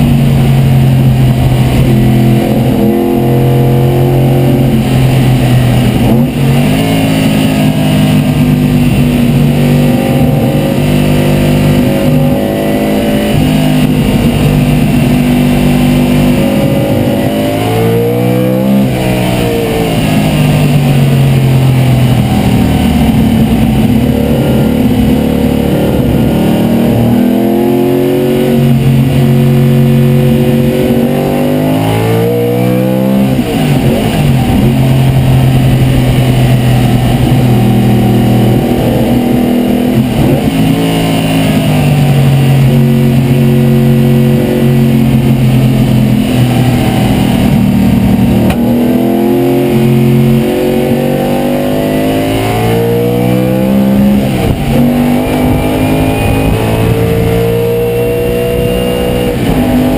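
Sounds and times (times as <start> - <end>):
race car engine under hard load: 0.0 - 59.9.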